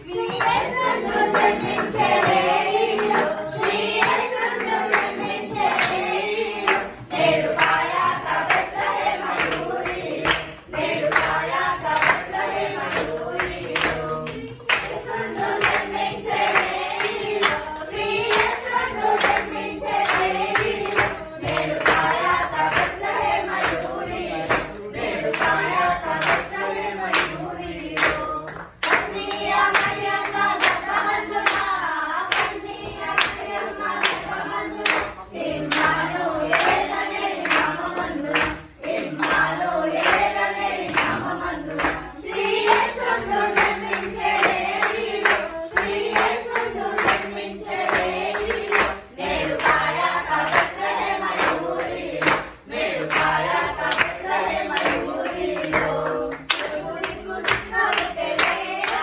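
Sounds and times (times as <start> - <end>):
group singing a carol: 0.0 - 59.0
rhythmic hand clapping: 0.0 - 59.0.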